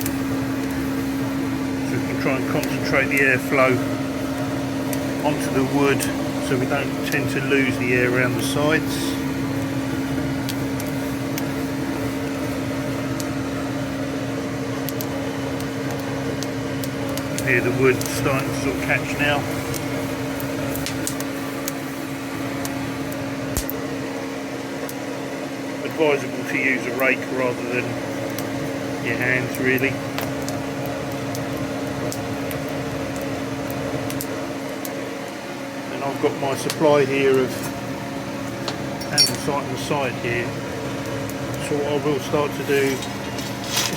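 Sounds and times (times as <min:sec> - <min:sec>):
blower fan humming: 0:00.0 - 0:43.9
kindling crackling: 0:00.0 - 0:43.9.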